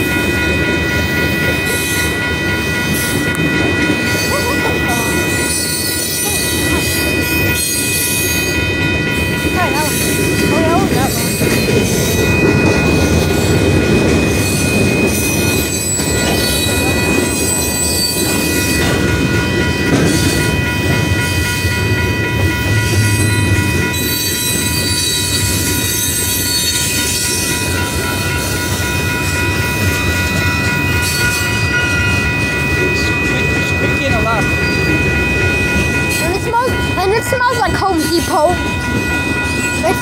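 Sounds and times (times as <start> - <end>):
high-pitched tones: 0.0 - 40.0
train wheels rumbling on rails: 0.0 - 40.0.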